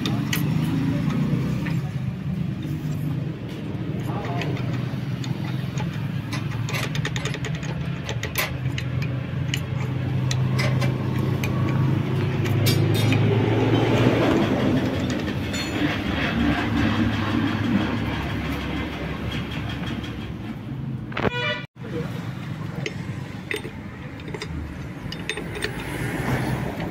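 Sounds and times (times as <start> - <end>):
engine low rumble: 0.0 - 26.9.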